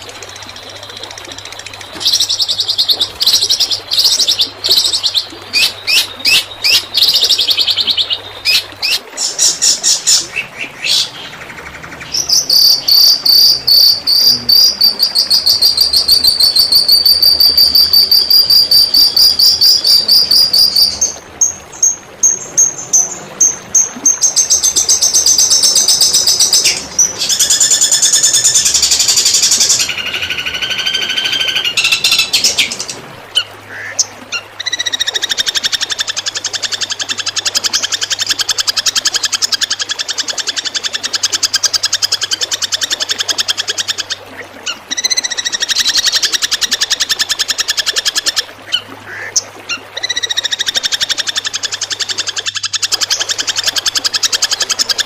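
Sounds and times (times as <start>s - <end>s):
songbird rapid trills: 0.0s - 55.0s.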